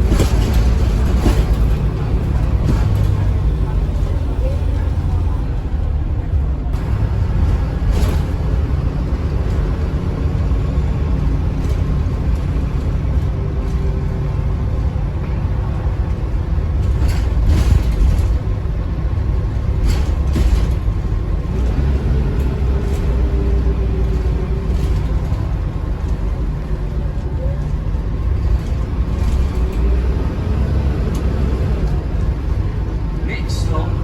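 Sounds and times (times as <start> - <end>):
bus engine rumble: 0.0 - 34.0.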